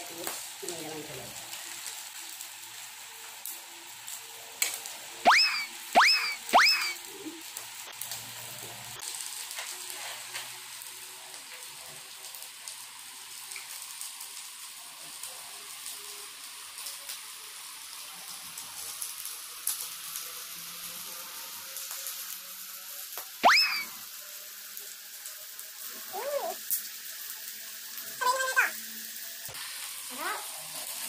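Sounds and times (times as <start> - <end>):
meat sizzling on grill pan: 0.0 - 31.0.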